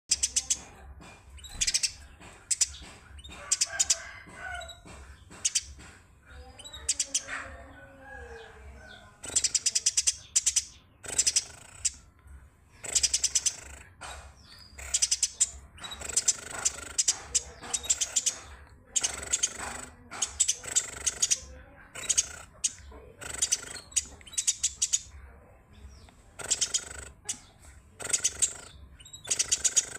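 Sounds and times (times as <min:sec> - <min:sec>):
sparrow chirping: 0:00.1 - 0:29.9.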